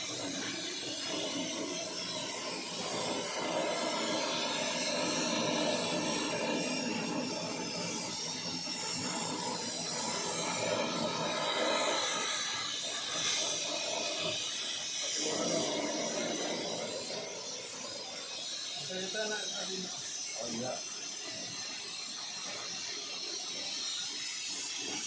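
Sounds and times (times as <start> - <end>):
machine hiss: 0.0 - 25.0
machine humming and whining: 0.0 - 25.0.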